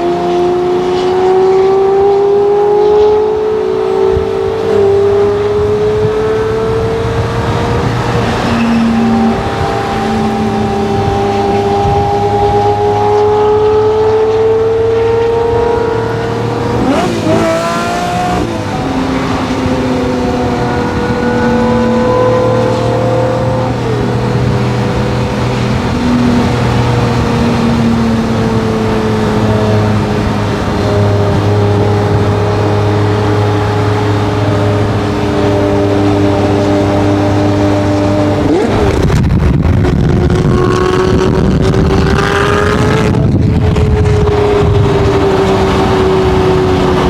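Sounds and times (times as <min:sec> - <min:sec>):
car engine droning: 0:00.0 - 0:47.0.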